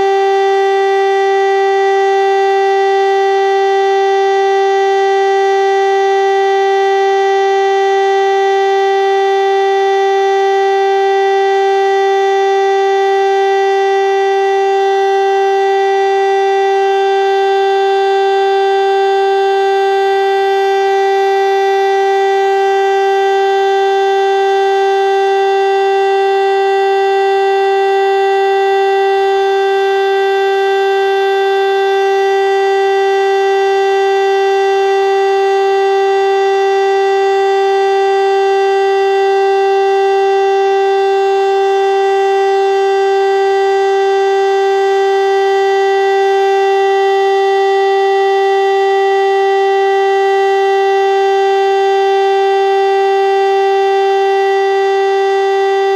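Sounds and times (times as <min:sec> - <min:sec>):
siren steady tone: 0:00.0 - 0:55.9.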